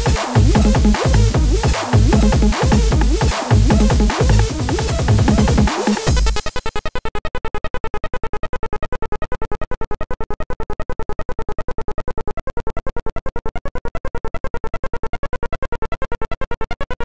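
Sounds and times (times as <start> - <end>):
stuttering synthesizer electronic music: 0.0 - 17.0.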